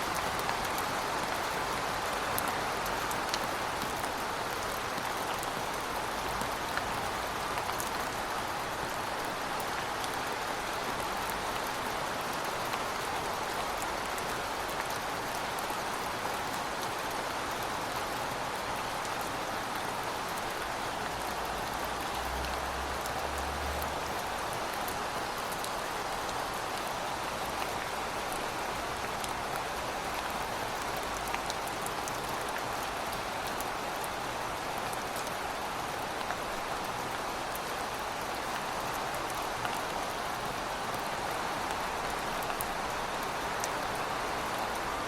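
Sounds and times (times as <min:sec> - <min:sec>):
heavy rain on hard surfaces: 0:00.0 - 0:45.0.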